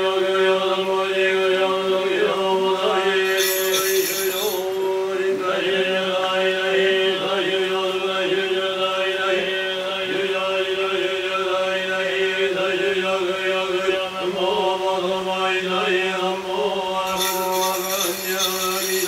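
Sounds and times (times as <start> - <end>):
monks chanting drone: 0.0 - 19.0.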